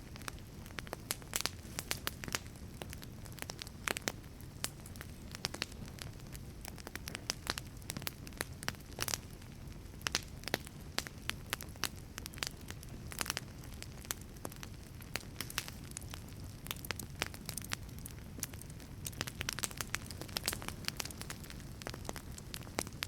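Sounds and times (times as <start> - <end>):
low rumble of flame: 0.0 - 23.0
wood fire crackling and popping: 0.0 - 23.0.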